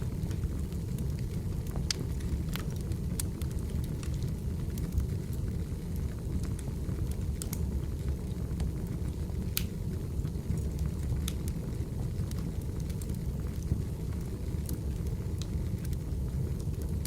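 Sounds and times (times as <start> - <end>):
firewood crackling and popping: 0.0 - 17.0
wood fire rumbling: 0.0 - 17.0.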